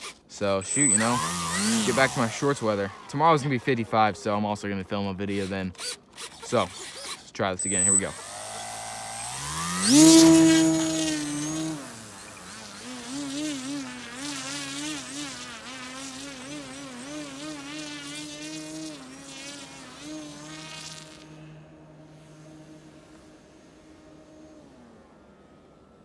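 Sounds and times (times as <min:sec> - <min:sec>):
model plane motor whining: 0:00.0 - 0:26.0.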